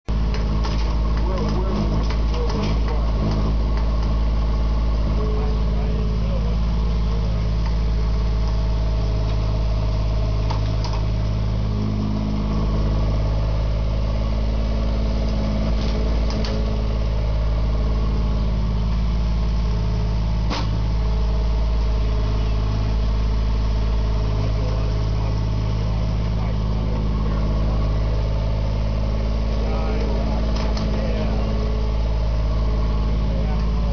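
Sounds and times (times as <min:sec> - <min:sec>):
small excavator engines running: 0:00.1 - 0:33.9.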